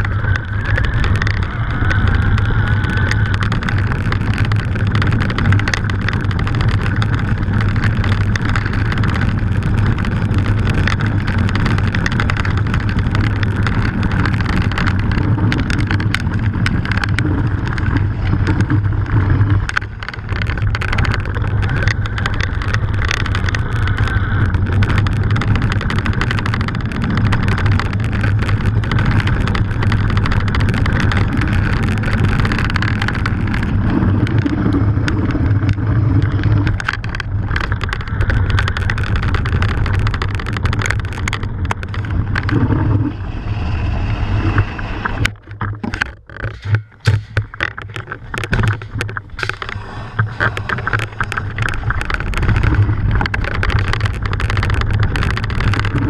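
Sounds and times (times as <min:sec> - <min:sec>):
bike rattles and clicks: 0:00.0 - 0:56.0
tyres rumbling on gravel: 0:00.0 - 0:56.0
wind on microphone: 0:00.0 - 0:56.0.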